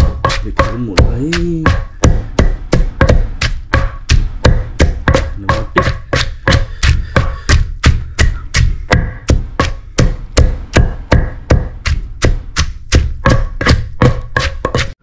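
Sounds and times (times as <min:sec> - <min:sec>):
knife chopping on cutting board: 0:00.0 - 0:15.0.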